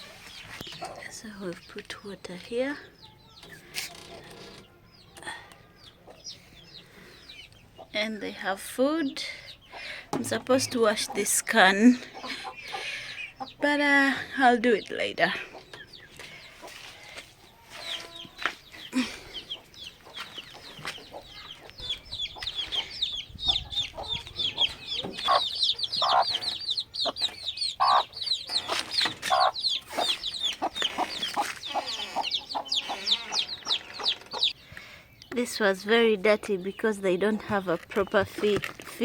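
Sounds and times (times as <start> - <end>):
chickens clucking and calling: 0.0 - 39.0.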